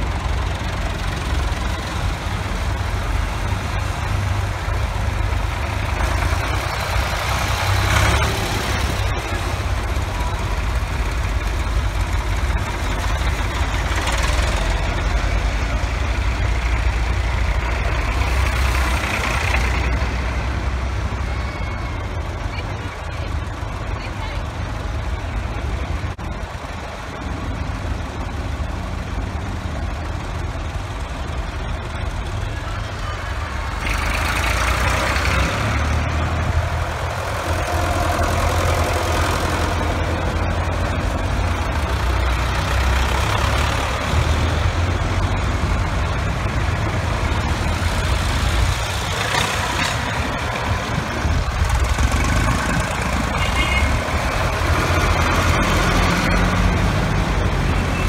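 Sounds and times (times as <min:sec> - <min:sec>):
tractor engines droning: 0:00.0 - 0:58.0.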